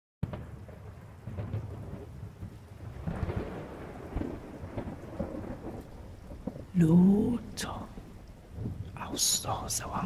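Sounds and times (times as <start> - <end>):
low rumbling thunder: 0.2 - 10.0
rain-like hiss: 0.2 - 10.0.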